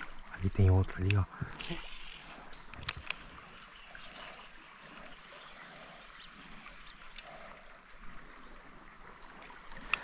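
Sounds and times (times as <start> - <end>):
creek water trickling: 0.0 - 10.0.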